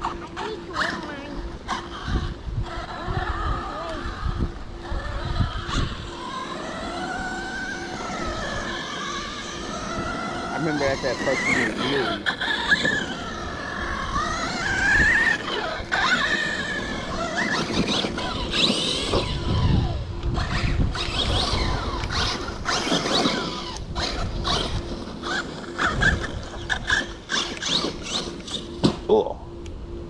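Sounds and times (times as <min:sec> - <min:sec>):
rc car motor whining: 0:00.0 - 0:29.7.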